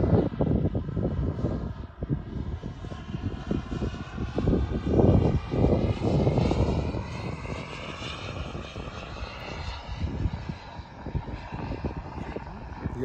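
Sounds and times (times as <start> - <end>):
model jet turbine whine: 0.0 - 13.0.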